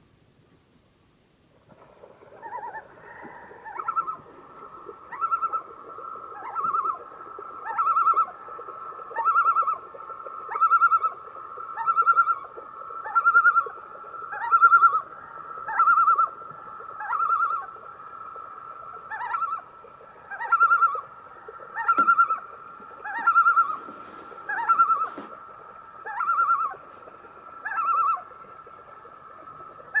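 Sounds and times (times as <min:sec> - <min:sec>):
loon calling: 0:02.3 - 0:08.4, 0:09.1 - 0:17.9, 0:18.8 - 0:30.0.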